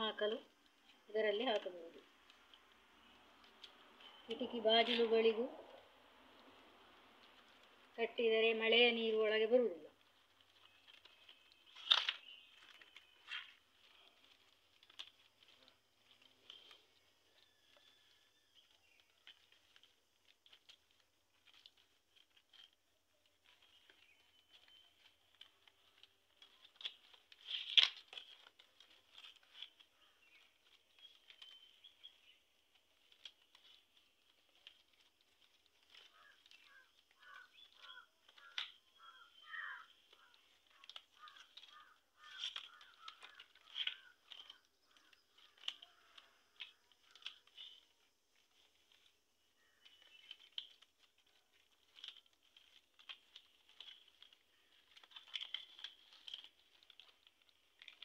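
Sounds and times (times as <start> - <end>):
dry leaves rustling and crackling: 0.0 - 58.0.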